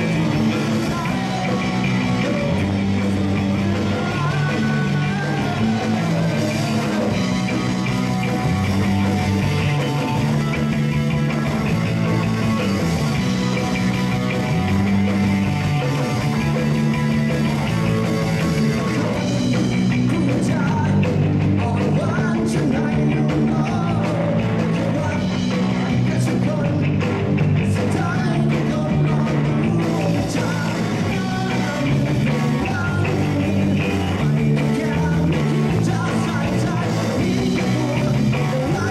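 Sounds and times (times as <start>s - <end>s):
bass line: 0.0s - 38.9s
rock band with singing: 0.0s - 38.9s.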